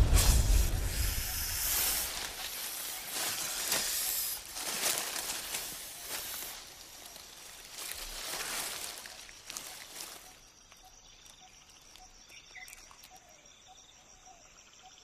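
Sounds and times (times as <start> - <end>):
dry leaves rustling and crackling: 0.0 - 13.1.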